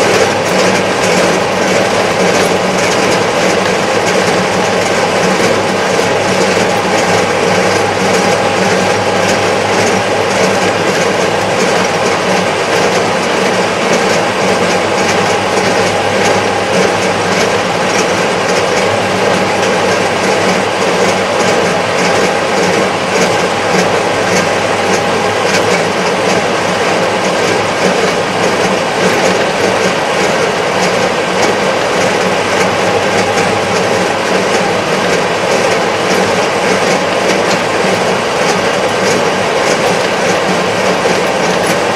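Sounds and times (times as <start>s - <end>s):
fast even clatter: 0.0s - 41.9s.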